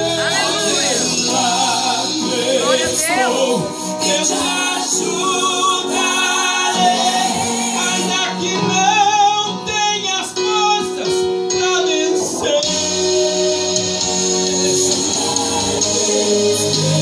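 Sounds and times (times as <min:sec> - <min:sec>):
instrumental accompaniment: 0:00.0 - 0:17.0
person singing with vibrato: 0:00.0 - 0:17.0.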